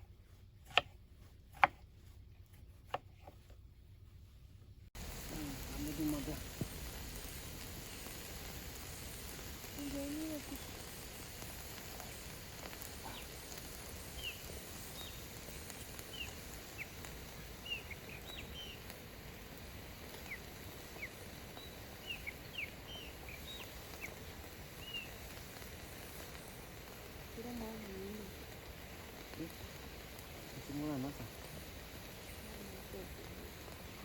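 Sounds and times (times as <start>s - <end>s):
steady background hiss: 3.2s - 34.0s
birds chirping: 5.0s - 34.0s.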